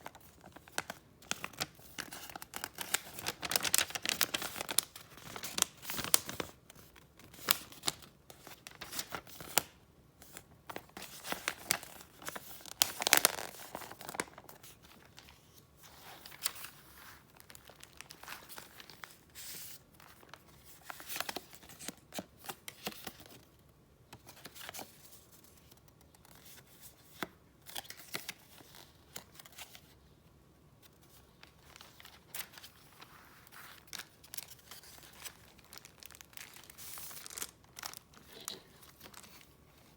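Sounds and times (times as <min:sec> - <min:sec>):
paper and packaging rustling: 0:00.0 - 0:23.4, 0:31.0 - 0:39.9.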